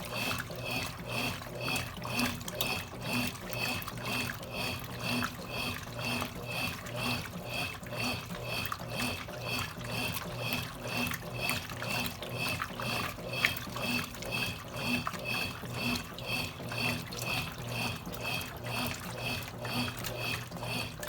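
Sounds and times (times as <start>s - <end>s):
washing machine water sloshing: 0.0s - 21.0s.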